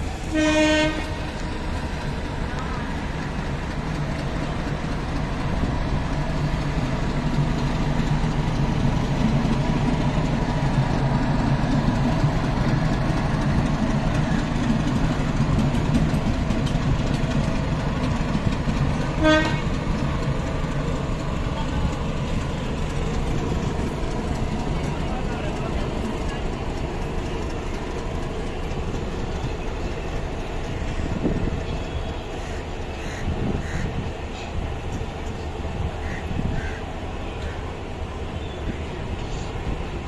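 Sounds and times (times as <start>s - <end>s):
diesel locomotive engine droning: 0.0s - 40.0s.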